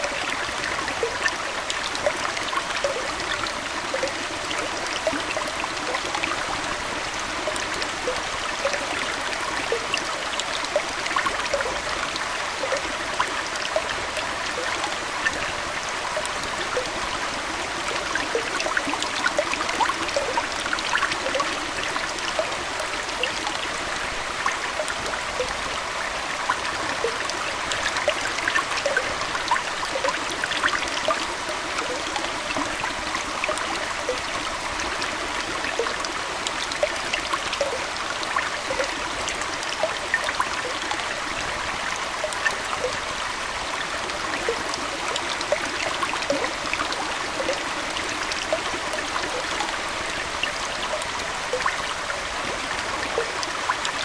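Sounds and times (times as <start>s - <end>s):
aquarium water trickling: 0.0s - 54.0s
small water plinks and splashes: 0.0s - 54.0s.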